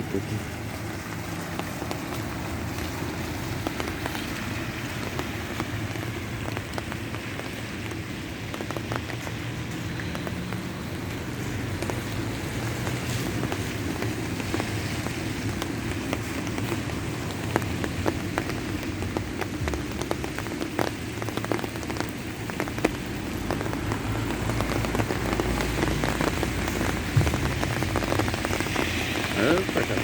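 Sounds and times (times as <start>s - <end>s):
steady rain: 0.0s - 30.0s
sharp raindrop taps: 0.3s - 30.0s.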